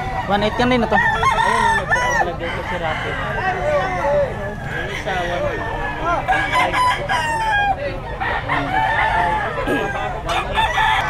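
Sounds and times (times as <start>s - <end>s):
chickens clucking: 0.0s - 11.0s
roosters crowing: 0.0s - 11.0s.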